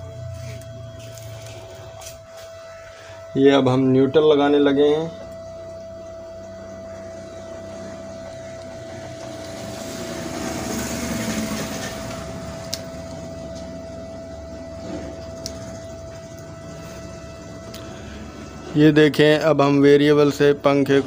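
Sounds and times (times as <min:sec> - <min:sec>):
high-pitched electrical whine: 0:00.0 - 0:21.0.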